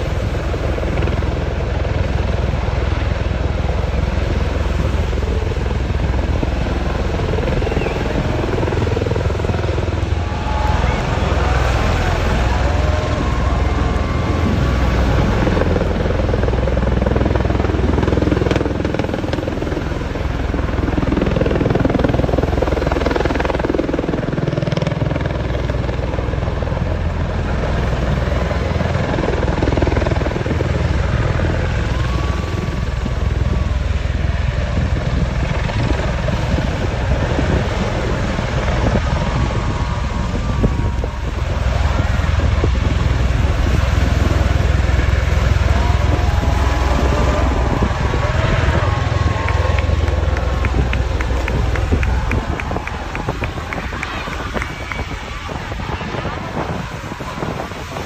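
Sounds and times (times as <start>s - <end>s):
aircraft rotors and engines roaring: 0.0s - 58.0s.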